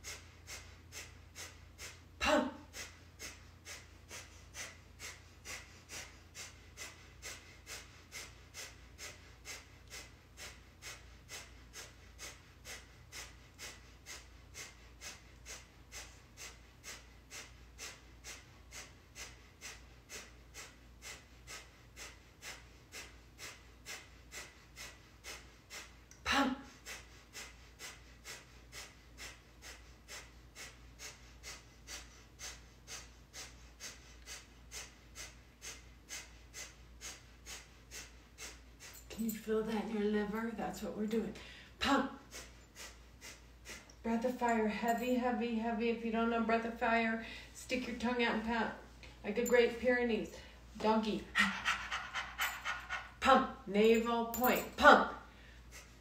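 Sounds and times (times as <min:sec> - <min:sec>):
fast forceful breaths: 0:00.0 - 0:45.1, 0:47.2 - 0:56.0.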